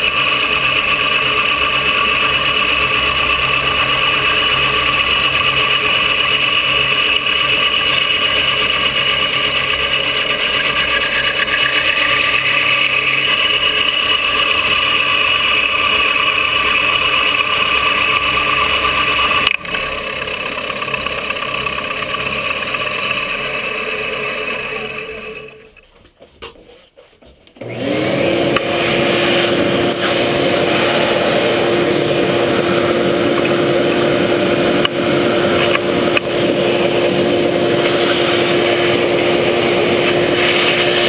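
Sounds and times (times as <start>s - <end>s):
milling machine whine: 0.0s - 25.9s, 27.6s - 41.0s.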